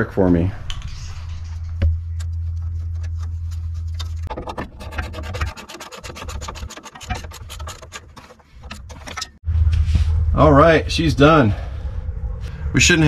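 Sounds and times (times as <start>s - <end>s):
low hum: 0.5s - 5.5s, 7.2s - 13.0s.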